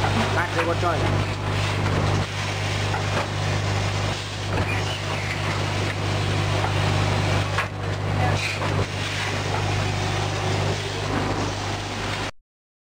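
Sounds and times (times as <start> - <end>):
packing machine running: 0.0 - 12.3.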